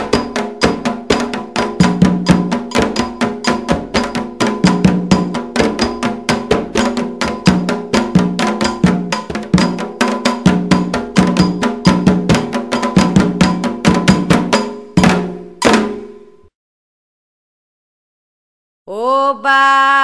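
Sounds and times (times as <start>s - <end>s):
hand drums playing: 0.0s - 16.2s.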